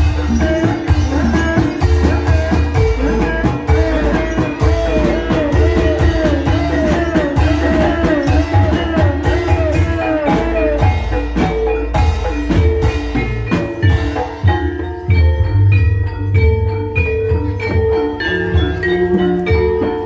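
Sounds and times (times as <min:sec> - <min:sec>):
drums playing fast rhythm: 0:00.0 - 0:20.0
mallet-struck keyed instruments: 0:00.0 - 0:20.0.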